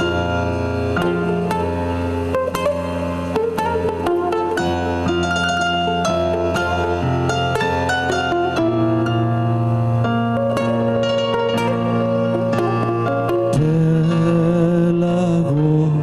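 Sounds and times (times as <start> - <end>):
bass line: 0.0 - 16.0
held keyboard chords: 0.0 - 16.0
plucked guitars: 0.0 - 16.0.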